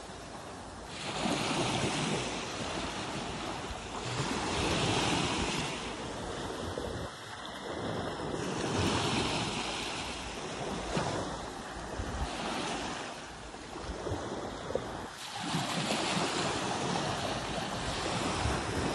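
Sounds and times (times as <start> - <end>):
sea waves breaking on beach: 0.0 - 18.9.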